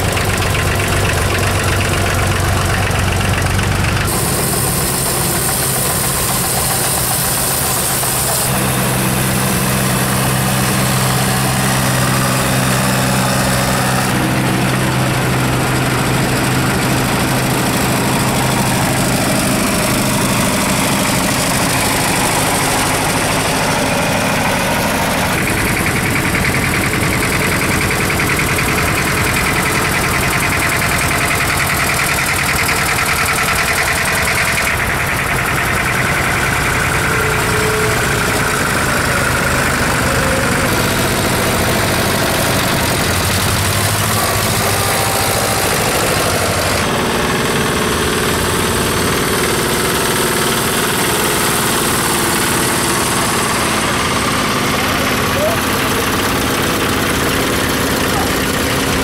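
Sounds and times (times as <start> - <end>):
diesel tractor engines running: 0.0 - 59.0.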